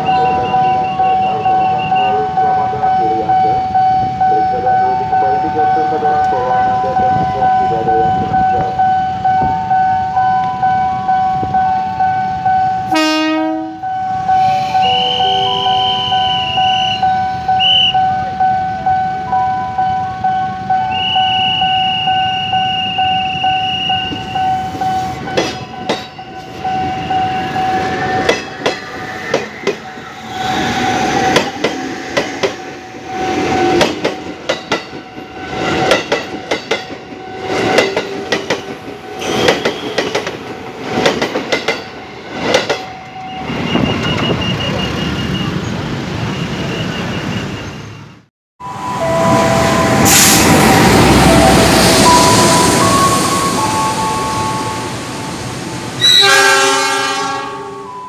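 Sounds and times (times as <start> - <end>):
electric train hum: 0.0 - 47.0, 48.6 - 58.0.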